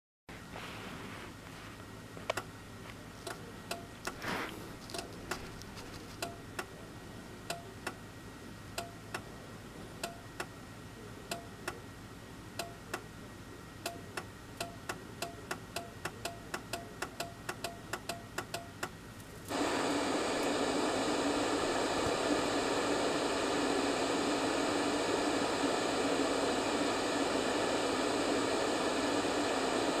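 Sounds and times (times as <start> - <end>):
television static hiss: 0.3 - 30.0.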